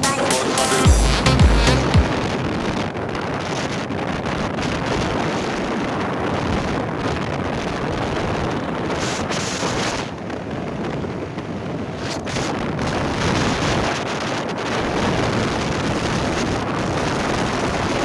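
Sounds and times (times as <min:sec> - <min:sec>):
wind rushing over microphone: 0:01.9 - 0:18.0.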